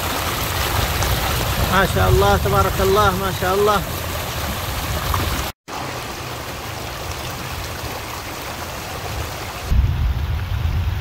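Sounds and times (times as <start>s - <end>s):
flood water rushing over rocks: 0.0s - 11.0s.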